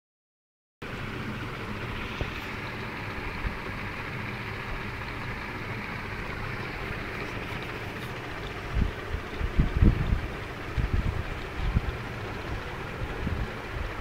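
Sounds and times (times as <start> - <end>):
steady rushing noise: 0.8 - 14.0.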